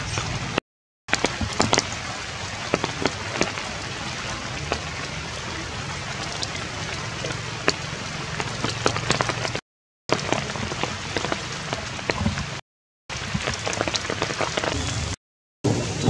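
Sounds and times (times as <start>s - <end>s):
rain falling on leaves: 0.0s - 15.2s.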